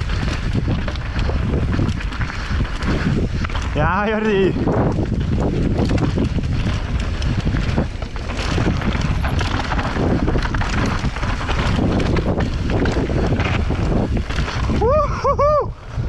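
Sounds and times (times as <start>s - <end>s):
bike rattling: 0.0s - 16.0s
tyres rumbling over dirt: 0.0s - 16.0s
wind noise on microphone: 0.0s - 16.0s.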